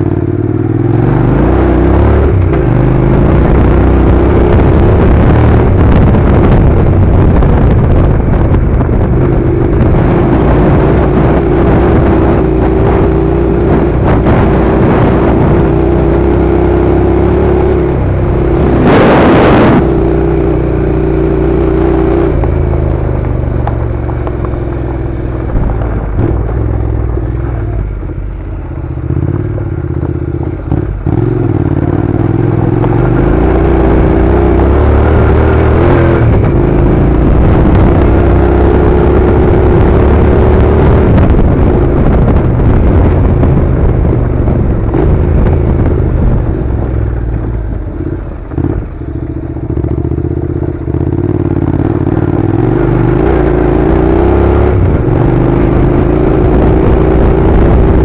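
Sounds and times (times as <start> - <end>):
loud rush of noise: 0.0 - 50.2, 51.1 - 58.0
motorcycle engine running: 0.0 - 58.0.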